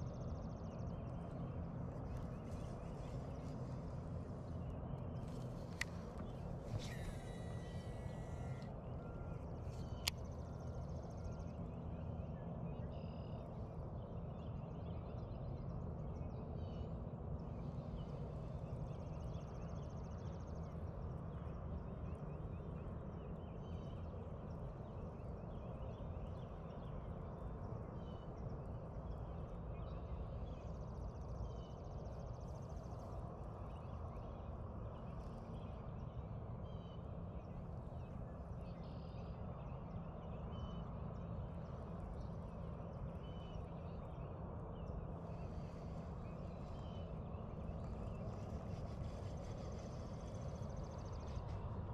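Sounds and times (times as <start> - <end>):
small birds chirping: 0.0 - 12.1, 12.7 - 51.9.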